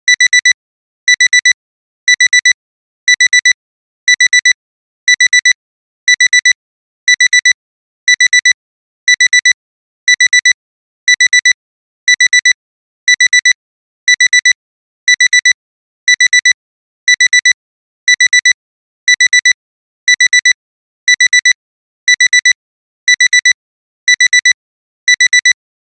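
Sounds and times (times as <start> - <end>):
digital alarm clock beeping: 0.1 - 25.6.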